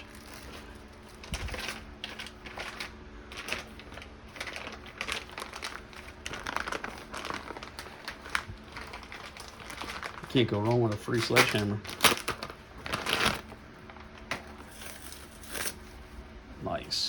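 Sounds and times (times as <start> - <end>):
packaging crinkling: 0.0 - 16.4.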